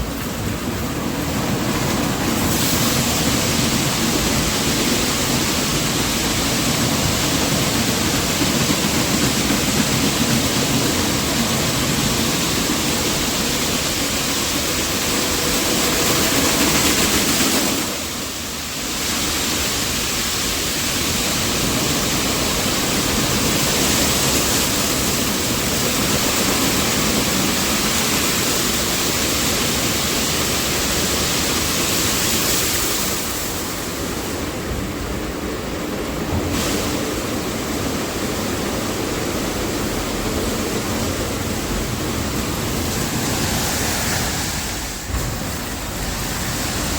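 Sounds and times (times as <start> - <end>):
car wash rushing noise: 0.0 - 46.9.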